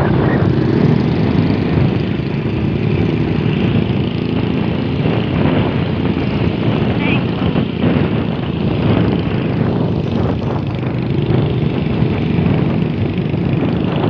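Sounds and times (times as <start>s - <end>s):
road and wind noise: 0.0s - 14.0s
small motorcycle engine running: 0.0s - 14.0s.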